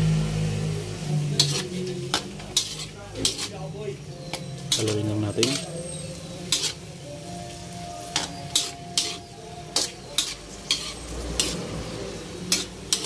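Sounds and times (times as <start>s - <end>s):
low sizzle: 0.0s - 13.0s
metal ladle scraping a wok: 1.3s - 7.0s, 8.0s - 13.0s.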